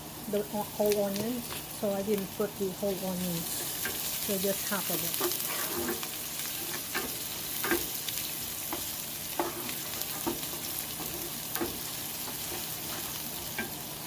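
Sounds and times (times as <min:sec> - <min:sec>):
garlic and onion sizzling in oil: 0:00.0 - 0:14.0.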